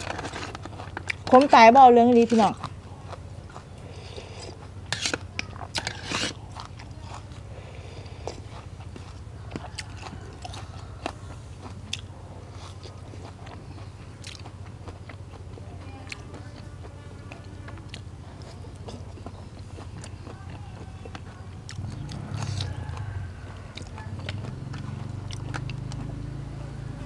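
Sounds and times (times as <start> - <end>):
steady low hum: 0.0 - 27.0
chewing with wet mouth clicks: 0.1 - 26.4.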